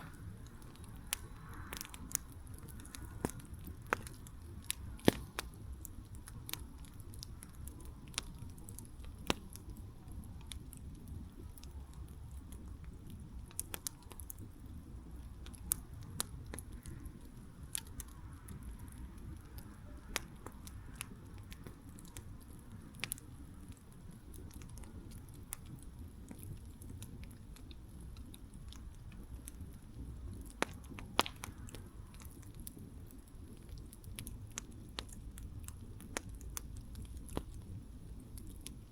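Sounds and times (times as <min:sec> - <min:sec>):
burning wood crackling and popping: 0:00.0 - 0:38.9
low rumble of flames: 0:00.0 - 0:38.9.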